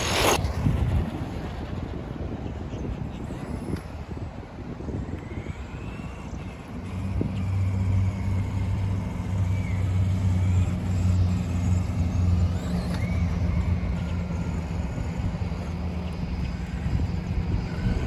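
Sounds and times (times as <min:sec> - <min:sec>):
electric motor whine: 0:00.0 - 0:00.4, 0:03.3 - 0:18.0
low steady rumble: 0:00.0 - 0:18.0.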